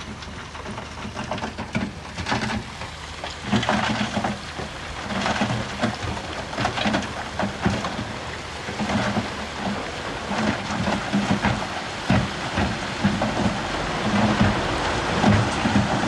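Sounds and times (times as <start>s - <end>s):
bulldozer diesel engine: 0.0s - 16.0s
knocks and clanks: 0.0s - 16.0s.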